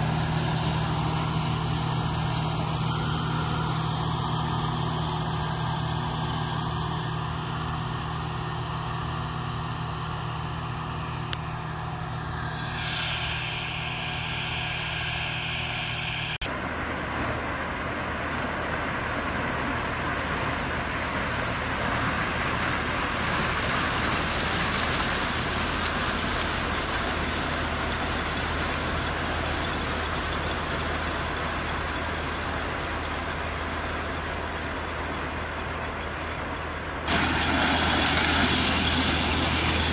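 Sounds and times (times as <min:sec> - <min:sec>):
combine harvester engine humming: 0:00.0 - 0:39.9
noisy machine sound: 0:00.0 - 0:39.9.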